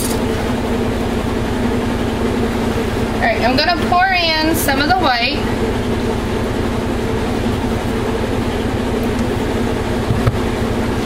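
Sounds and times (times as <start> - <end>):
washing machine running: 0.0 - 11.0.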